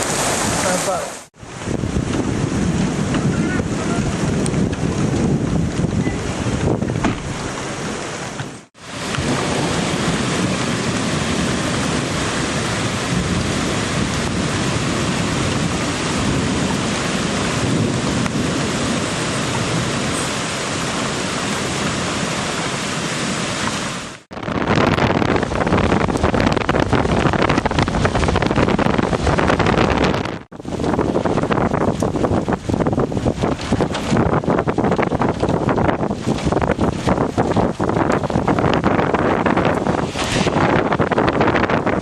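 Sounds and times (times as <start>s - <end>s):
floodwater flowing: 0.0s - 42.0s
heavy rain: 0.0s - 42.0s
wind buffeting microphone: 0.0s - 42.0s.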